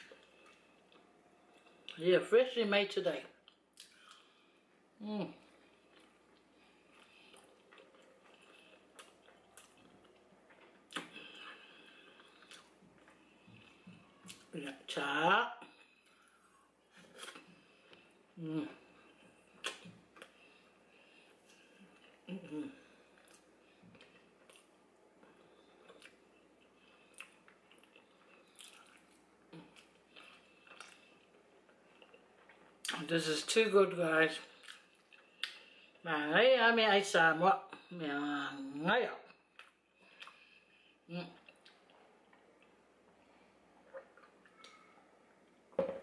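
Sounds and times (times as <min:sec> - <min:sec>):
faint chewing: 0:00.0 - 0:02.0, 0:05.3 - 0:14.6, 0:15.6 - 0:33.1, 0:34.4 - 0:36.0, 0:39.3 - 0:45.8.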